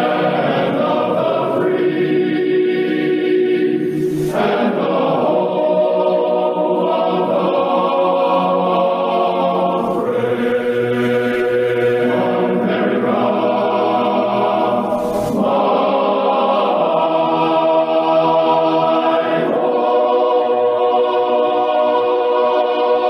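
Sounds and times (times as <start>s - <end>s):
choir singing held chords: 0.0s - 23.0s.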